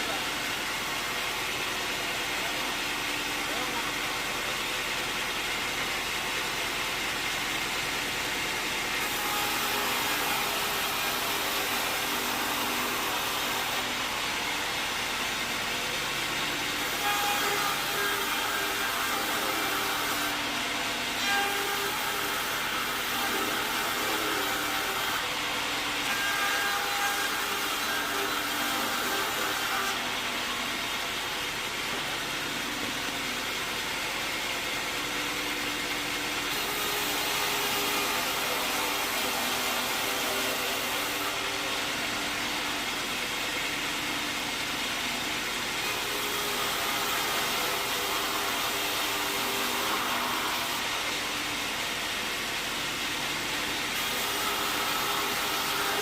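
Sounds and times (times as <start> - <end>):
sawmill saw running: 0.0 - 56.0
saw whining tones: 8.2 - 56.0.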